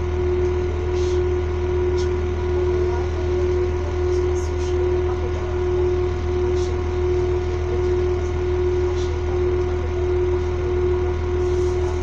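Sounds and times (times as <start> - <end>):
constant humming tone: 0.0 - 12.0
train idling low rumble: 0.0 - 12.0.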